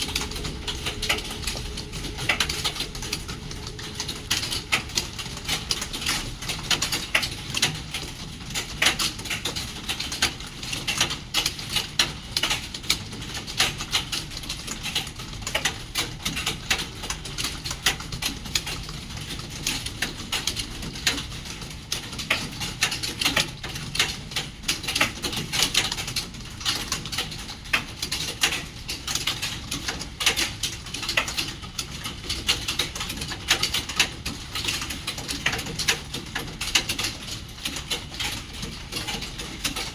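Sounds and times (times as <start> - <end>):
keyboards typing clatter: 0.0 - 39.9.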